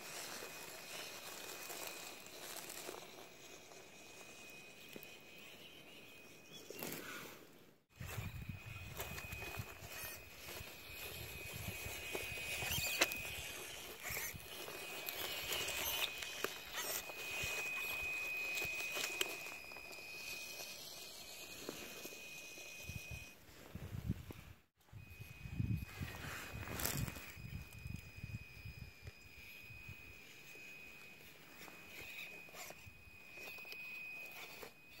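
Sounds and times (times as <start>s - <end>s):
leaves and twigs crackling: 0.0s - 6.0s, 7.9s - 22.6s, 25.0s - 35.0s
small electric motor whine: 0.0s - 35.0s.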